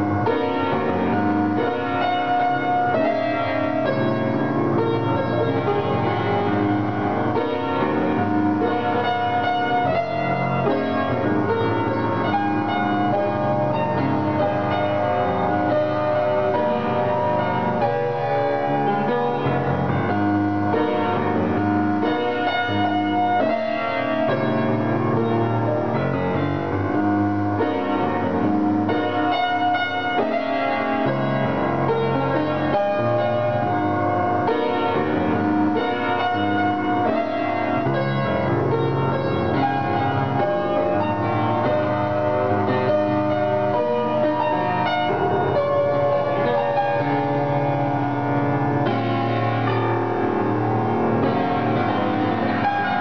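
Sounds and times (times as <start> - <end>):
solo piano: 0.0 - 53.0.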